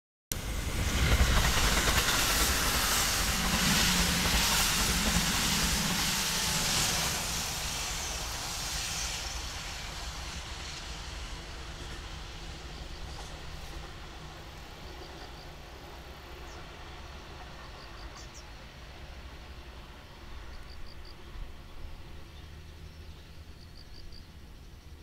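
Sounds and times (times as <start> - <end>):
train passing at speed: 0.3 - 25.0.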